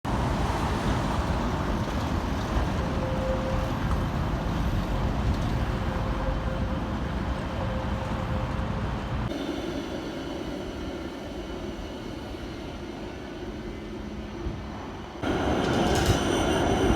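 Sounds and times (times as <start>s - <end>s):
tram rumble: 0.0s - 16.9s.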